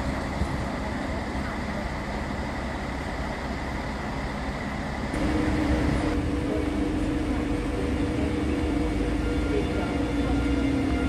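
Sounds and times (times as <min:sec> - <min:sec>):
diesel locomotive engine hum: 0:00.0 - 0:11.0
railway ambience: 0:00.0 - 0:11.0.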